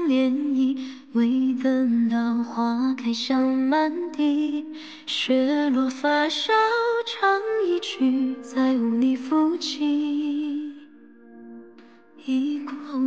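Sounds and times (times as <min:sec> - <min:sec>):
woman singing a slow ballad: 0:00.0 - 0:11.0, 0:12.2 - 0:13.0.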